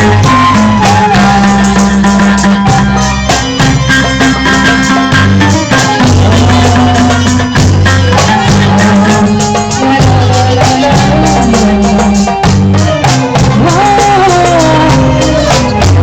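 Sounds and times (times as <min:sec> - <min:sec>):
melodic line: 0:00.0 - 0:16.0
steady percussive beat: 0:00.0 - 0:16.0.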